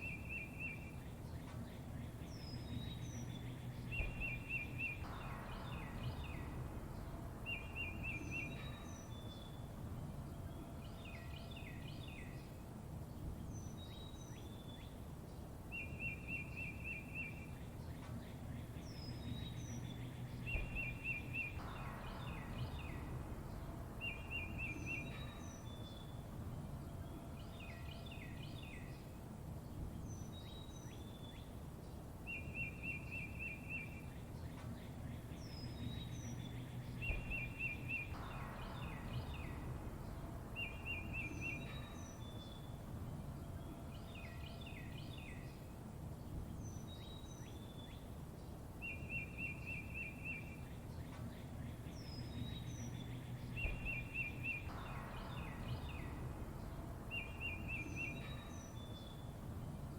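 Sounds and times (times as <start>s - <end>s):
low background rumble: 0.0s - 59.9s
songbirds chirping: 0.0s - 59.9s.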